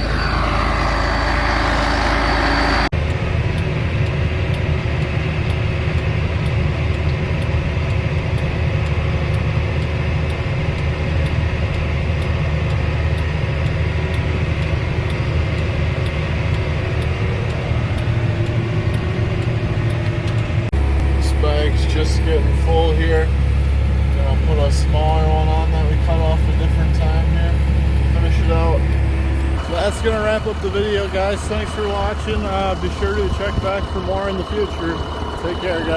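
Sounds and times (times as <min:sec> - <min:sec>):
faint even ticking: 0:00.0 - 0:35.9
low engine drone: 0:00.0 - 0:35.9.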